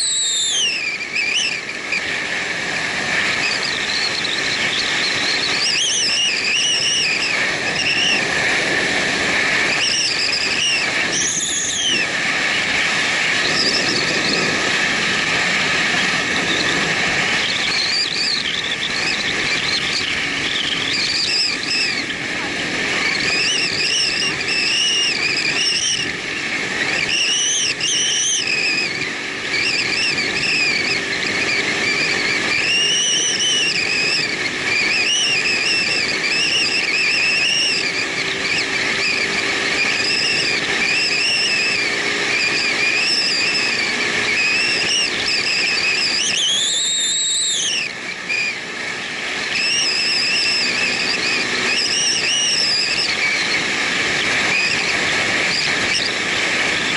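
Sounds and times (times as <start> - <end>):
motorcycle riding: 0.0 - 56.9
rushing noise: 0.0 - 56.9.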